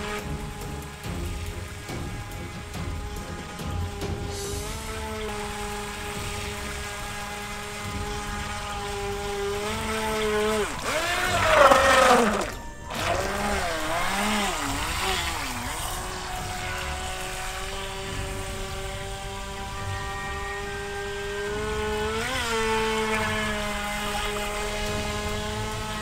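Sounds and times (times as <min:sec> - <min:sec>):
toy boat motor whining: 0:00.0 - 0:26.0.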